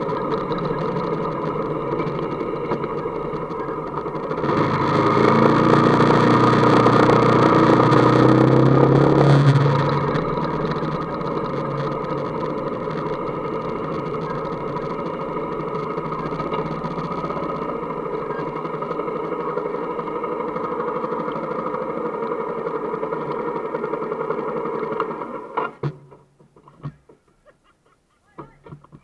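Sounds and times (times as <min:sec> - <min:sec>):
motorcycle engine accelerating: 0:00.0 - 0:27.2.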